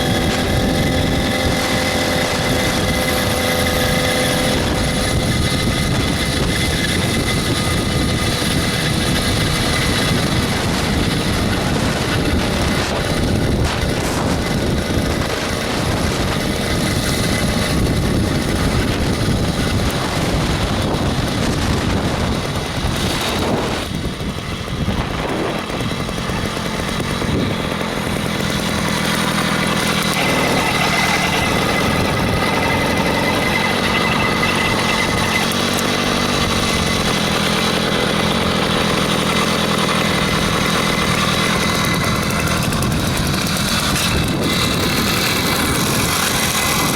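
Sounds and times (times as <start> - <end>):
two-stroke engine running: 0.0 - 46.9.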